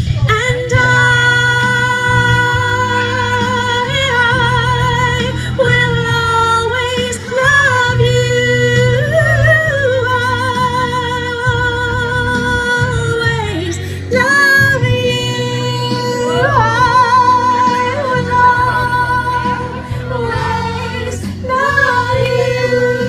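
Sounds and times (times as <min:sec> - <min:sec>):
instrumental accompaniment: 0:00.0 - 0:23.0
woman singing through speaker: 0:00.0 - 0:23.0.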